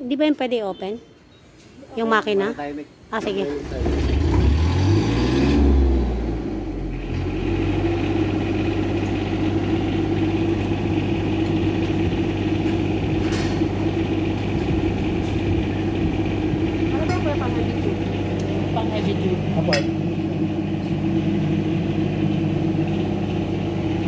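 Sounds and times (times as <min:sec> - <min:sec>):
generator engine starting and idling: 0:03.2 - 0:24.0.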